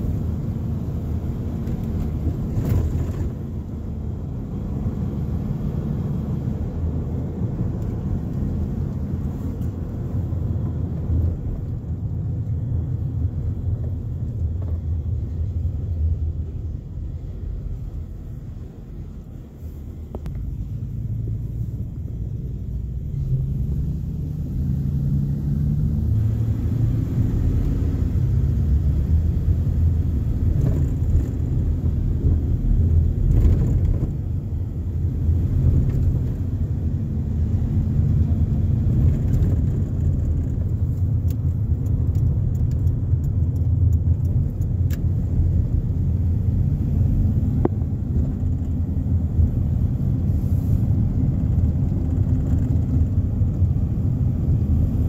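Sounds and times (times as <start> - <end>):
car engine: 0.0 - 55.0
road rumble: 0.0 - 55.0.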